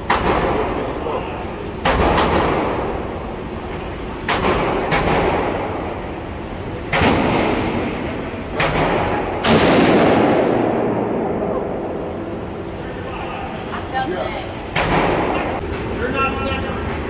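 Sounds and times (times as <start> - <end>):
revolver shots echoing indoors: 0.0 - 1.1, 1.7 - 13.0, 14.6 - 16.0.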